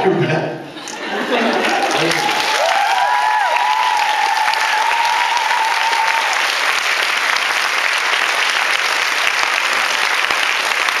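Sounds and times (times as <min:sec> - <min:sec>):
audience clapping and cheering: 0:00.8 - 0:11.0.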